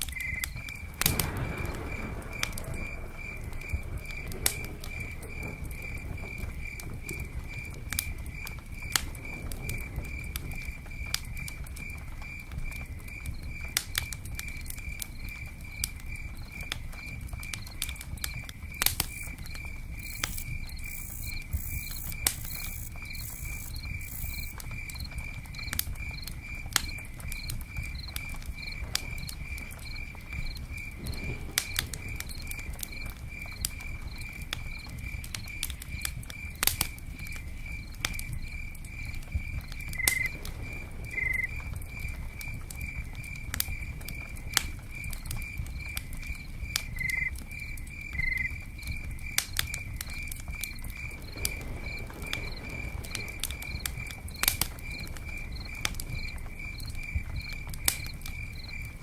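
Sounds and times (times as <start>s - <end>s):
campfire crackles: 0.0s - 59.0s
rain pattering on a tent: 0.0s - 59.0s.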